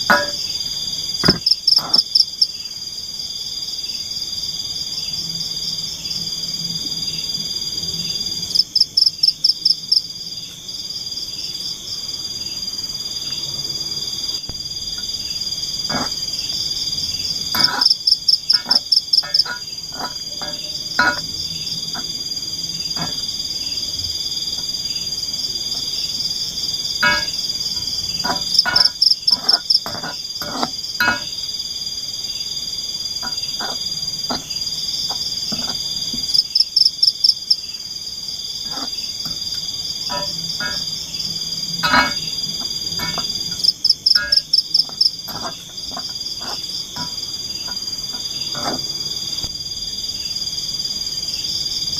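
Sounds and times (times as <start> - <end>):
frogs croaking: 0.0 - 51.9
insects chorus: 0.0 - 51.9.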